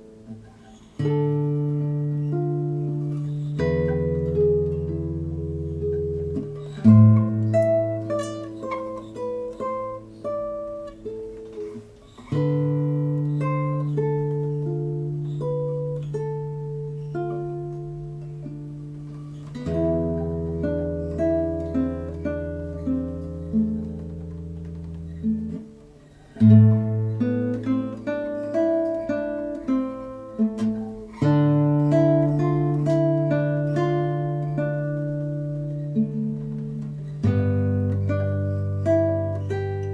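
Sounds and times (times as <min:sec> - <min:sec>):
plucked string instrument: 0:00.0 - 0:39.9.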